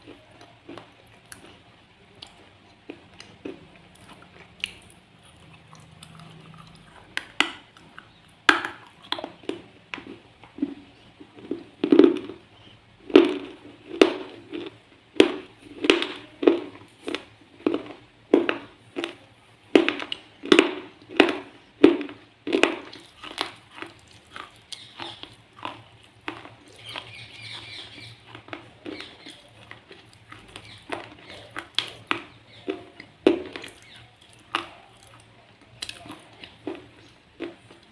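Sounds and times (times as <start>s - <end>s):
person chewing crunchy pencil: 0.0s - 37.9s.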